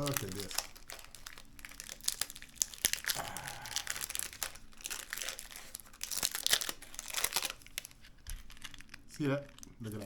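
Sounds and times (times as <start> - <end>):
candy wrapper crinkling: 0.0 - 10.0.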